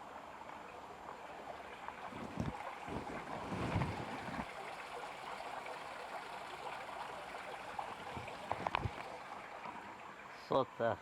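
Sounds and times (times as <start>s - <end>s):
water babbling: 0.0s - 11.0s.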